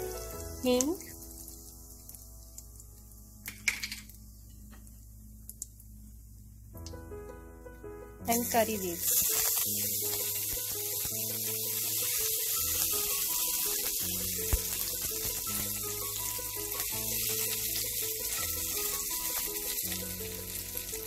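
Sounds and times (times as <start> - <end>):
background music with held notes: 0.0 - 4.6, 6.7 - 21.0
seeds sizzling in hot oil: 0.0 - 6.5, 8.3 - 21.0.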